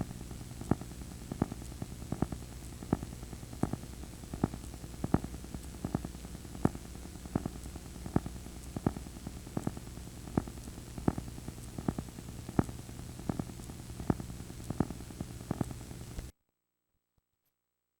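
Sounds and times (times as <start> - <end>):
static hiss: 0.0 - 16.3
sharp clicks: 0.6 - 16.3.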